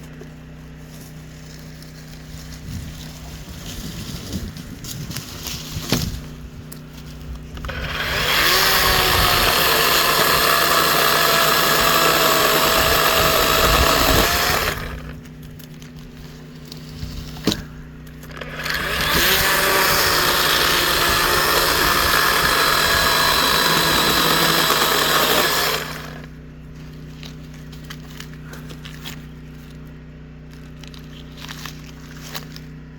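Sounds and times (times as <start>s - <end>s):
chainsaw cutting wood: 5.1s - 32.9s.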